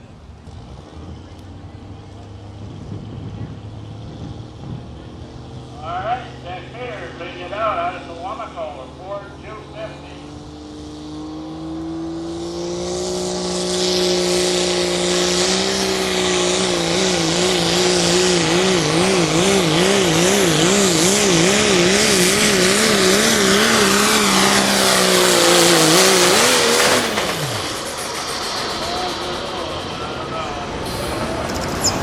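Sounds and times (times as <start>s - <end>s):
truck engine revving under load: 0.0s - 32.0s.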